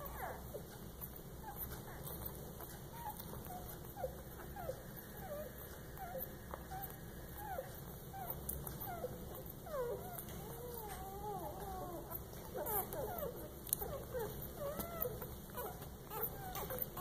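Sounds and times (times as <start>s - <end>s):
puppies squeaking and whimpering: 0.0s - 17.0s.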